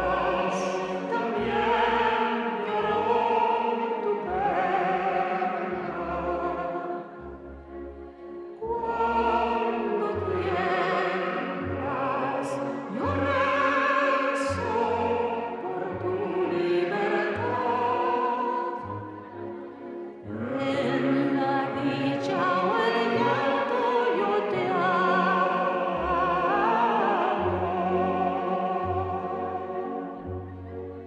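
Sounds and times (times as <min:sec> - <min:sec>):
operatic singing voice: 0:00.0 - 0:07.9, 0:08.6 - 0:30.8
orchestral accompaniment: 0:00.0 - 0:31.0.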